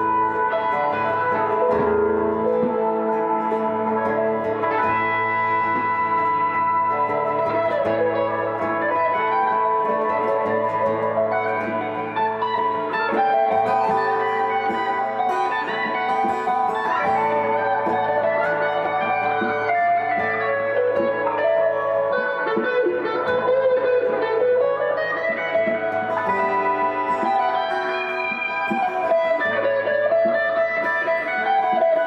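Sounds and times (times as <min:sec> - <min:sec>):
electric guitars playing: 0:00.0 - 0:32.0.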